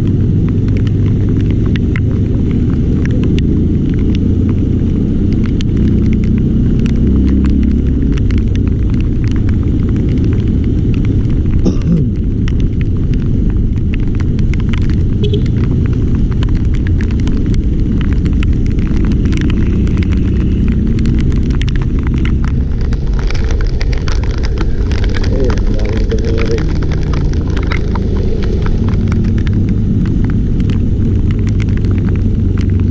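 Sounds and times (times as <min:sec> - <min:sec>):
rain ticking on microphone: 0:00.0 - 0:32.9
wind rumbling on microphone: 0:00.0 - 0:32.9.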